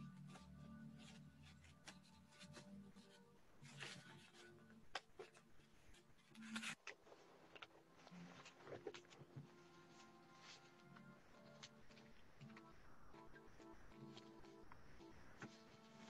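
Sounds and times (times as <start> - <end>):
rustles: 0.0 - 16.0.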